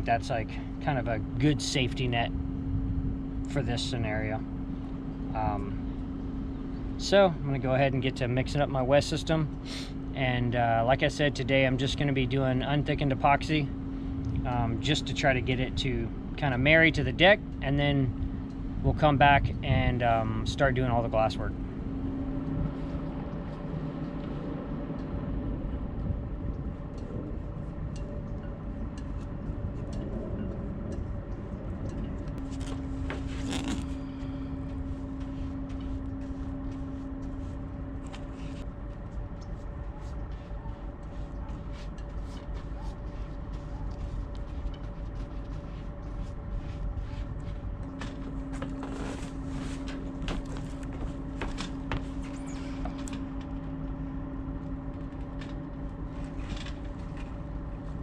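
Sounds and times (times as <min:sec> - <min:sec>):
steady hum: 0:00.0 - 0:58.0
steady low rumble: 0:00.0 - 0:58.0.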